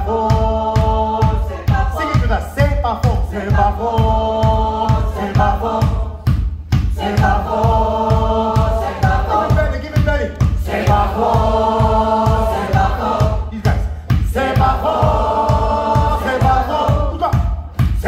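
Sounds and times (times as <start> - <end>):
steady drumbeat: 0.0 - 18.0
voices singing in harmony: 0.0 - 18.0.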